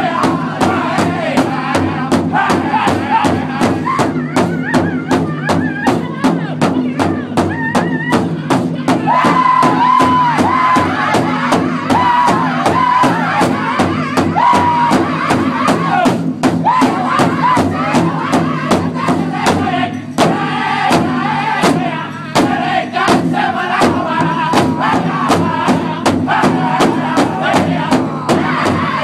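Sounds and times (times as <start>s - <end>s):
group singing in unison: 0.0s - 6.7s, 8.2s - 29.0s
large drum beaten with sticks: 0.0s - 29.0s.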